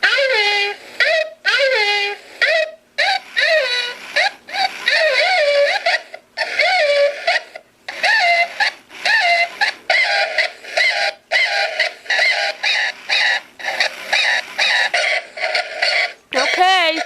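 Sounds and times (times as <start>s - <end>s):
high-pitched electronic toy voices: 0.0s - 17.0s.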